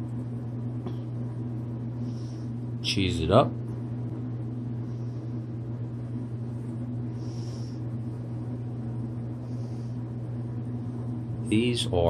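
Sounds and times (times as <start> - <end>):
kitchen appliance electrical hum: 0.0 - 12.0.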